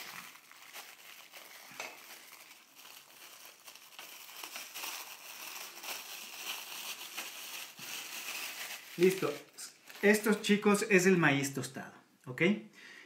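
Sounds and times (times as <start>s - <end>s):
plastic bag crinkling: 0.0s - 11.1s.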